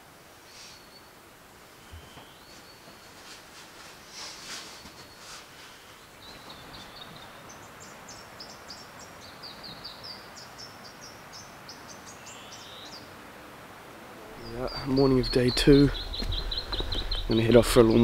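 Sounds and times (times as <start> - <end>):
faint steady hiss: 0.0 - 18.0
songbird chirping: 0.4 - 18.0.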